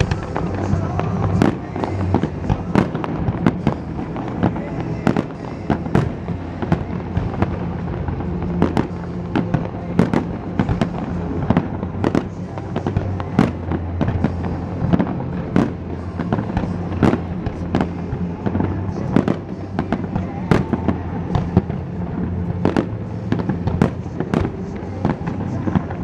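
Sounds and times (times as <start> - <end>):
fireworks bangs and cracks: 0.0 - 26.0
steady low drone: 0.0 - 26.0.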